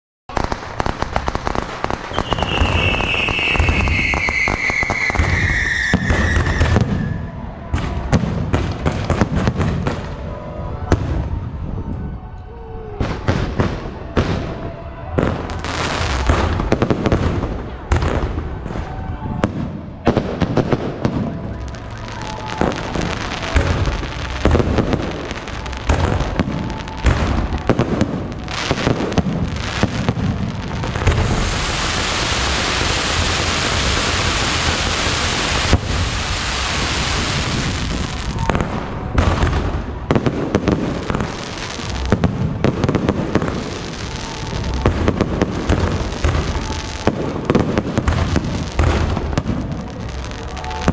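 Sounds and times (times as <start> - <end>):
fireworks bursting and crackling: 0.3 - 12.3, 12.9 - 50.9
descending firework whistle: 0.3 - 50.9.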